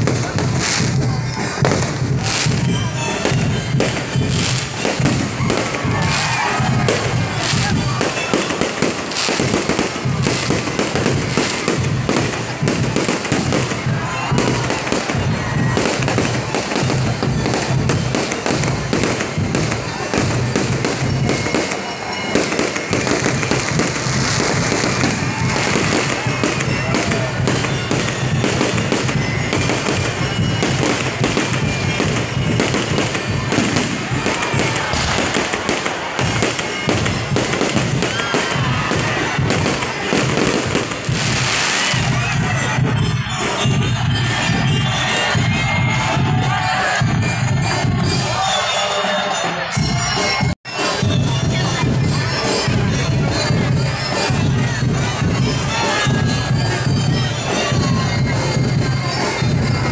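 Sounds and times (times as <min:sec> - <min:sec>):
fireworks crackling and popping: 0:00.0 - 0:48.4
music: 0:00.0 - 0:59.9
voices: 0:00.0 - 0:59.9.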